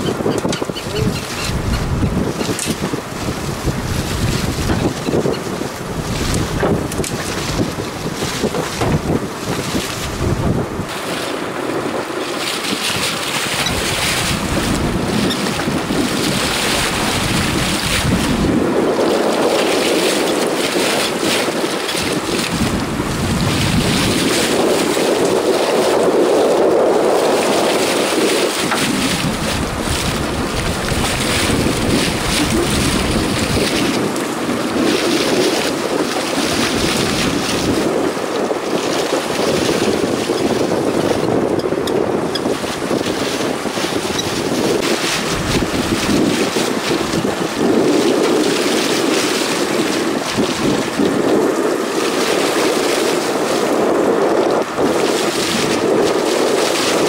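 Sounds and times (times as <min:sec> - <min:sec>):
open sea washing: 0:00.0 - 0:57.0
wind buffeting microphone: 0:00.0 - 0:57.0.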